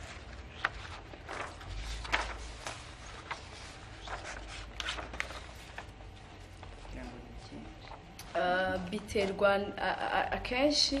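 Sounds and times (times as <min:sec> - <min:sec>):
paper rustling: 0:00.0 - 0:09.4
faint room hum: 0:00.0 - 0:11.0.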